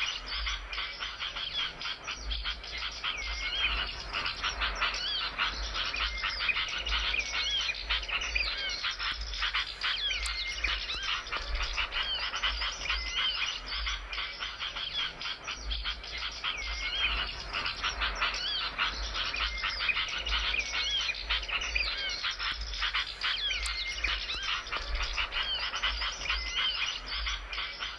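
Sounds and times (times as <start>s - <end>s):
songbirds chirping and twittering: 0.0s - 27.9s.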